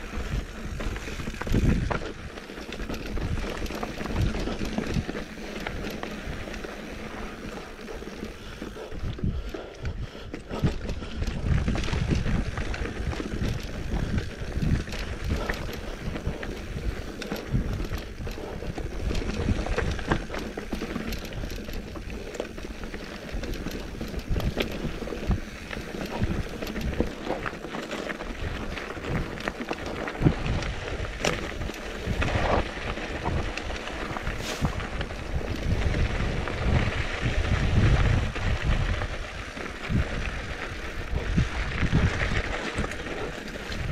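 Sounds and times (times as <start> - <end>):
bike rattling: 0.0 - 43.9
bike tyres crunching over stones: 0.0 - 43.9
wind on microphone: 0.0 - 43.9.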